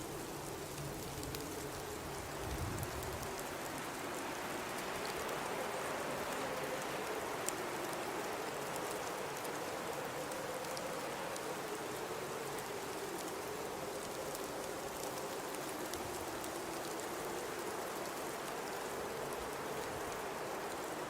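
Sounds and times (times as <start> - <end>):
faint ticks: 0.0 - 21.0
high wind and blowing snow: 0.0 - 21.0.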